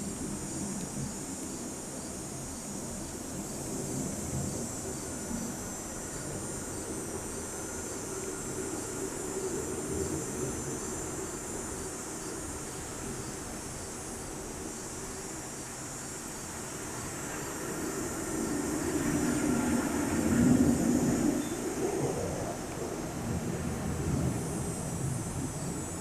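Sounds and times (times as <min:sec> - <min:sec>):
high-pitched hiss: 0:00.0 - 0:26.0.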